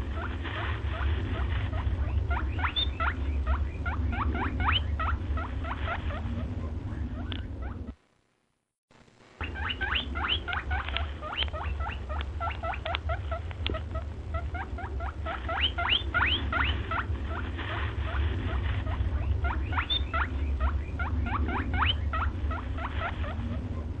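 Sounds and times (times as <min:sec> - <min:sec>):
steady low hum: 0:00.0 - 0:24.0
small animal squeaking: 0:00.2 - 0:08.0, 0:09.4 - 0:23.9.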